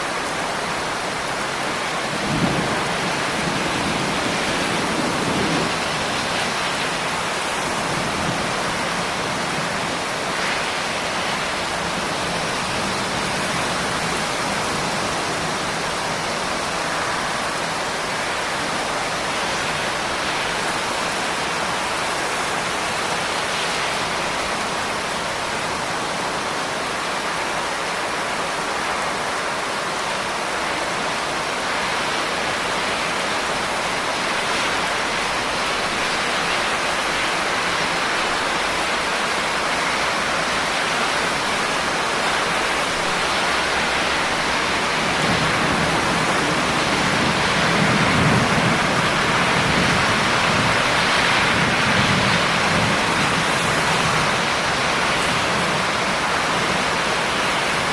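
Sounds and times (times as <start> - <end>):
rain hiss: 0.0 - 57.9.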